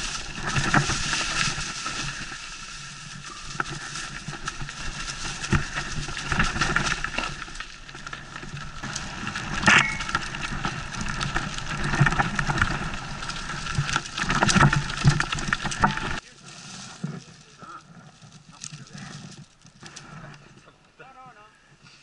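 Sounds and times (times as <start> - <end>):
tyres crunching over leaves: 0.0 - 21.5.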